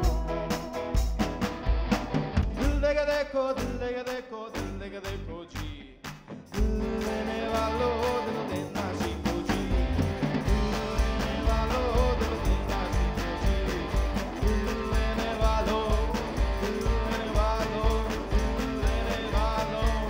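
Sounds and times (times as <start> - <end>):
person singing: 0.0 - 1.3, 2.5 - 20.0
rock band playing: 0.0 - 3.8, 6.1 - 20.0.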